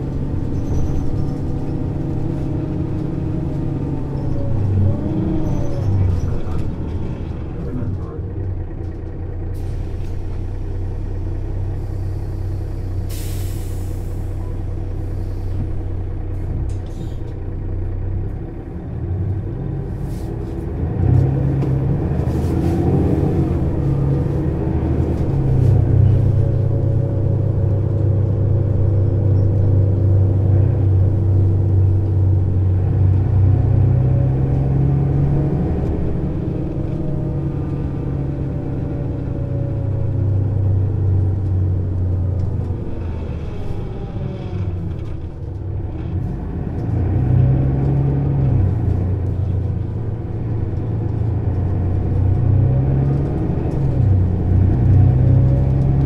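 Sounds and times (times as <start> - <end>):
bus engine idling: 0.0 - 56.0
bus pulling away: 0.0 - 56.0.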